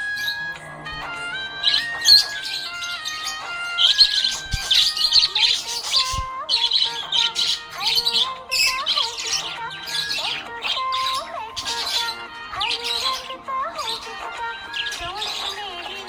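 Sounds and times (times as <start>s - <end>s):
background music: 0.0s - 16.0s
budgerigar chirping and warbling: 0.0s - 16.0s.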